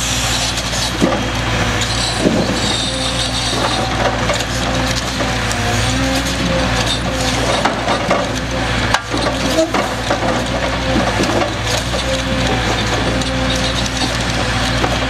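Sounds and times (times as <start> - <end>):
hydraulic crane whine: 0.0 - 15.0
truck engine humming: 0.0 - 15.0
logs knocking and creaking: 0.8 - 15.0.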